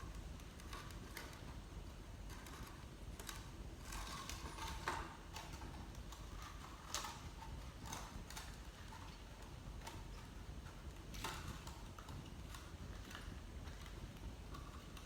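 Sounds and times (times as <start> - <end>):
low steady hum: 0.0 - 15.0
light irregular clicks and taps: 2.3 - 15.0.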